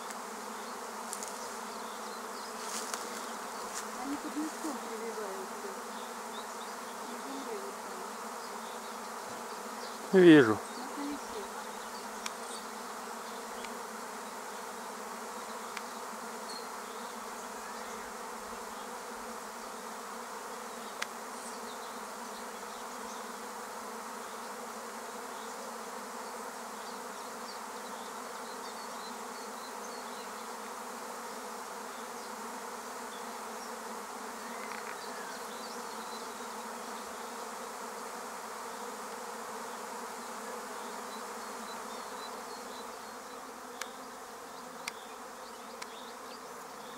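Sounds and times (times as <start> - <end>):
bees buzzing: 0.0 - 46.9.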